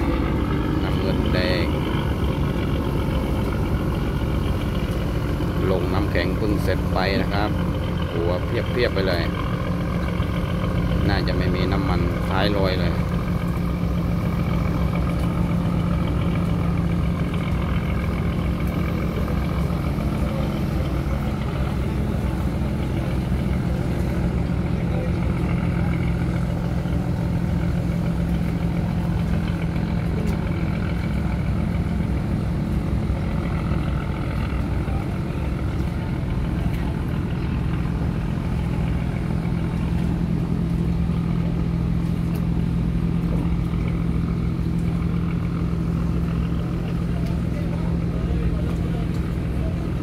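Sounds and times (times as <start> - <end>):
boat diesel engine droning: 0.0 - 50.0.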